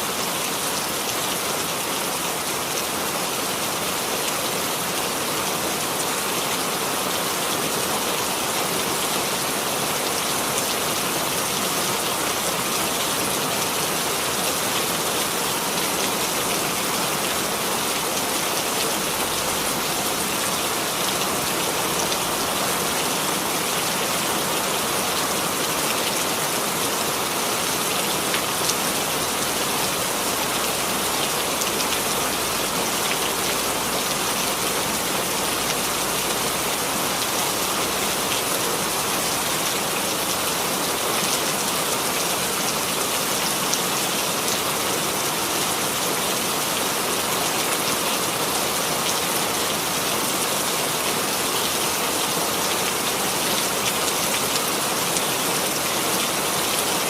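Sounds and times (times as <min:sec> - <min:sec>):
rain hiss: 0:00.0 - 0:57.0.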